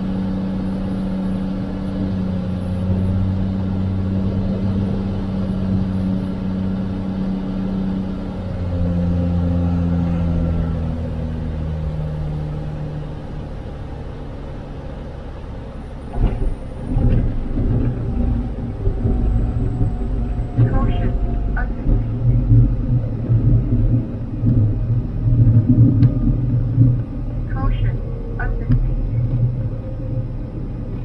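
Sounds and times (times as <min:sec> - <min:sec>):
airplane engine and propeller: 0:00.0 - 0:31.0.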